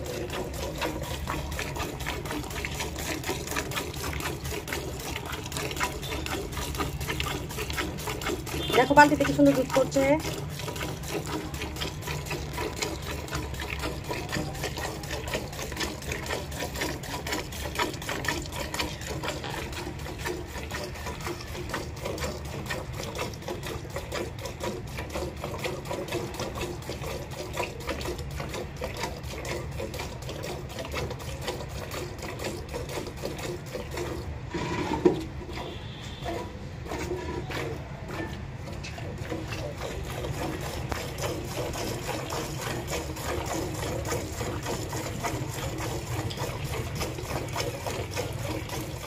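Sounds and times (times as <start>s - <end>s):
milk squirting into bucket: 0.0s - 49.0s.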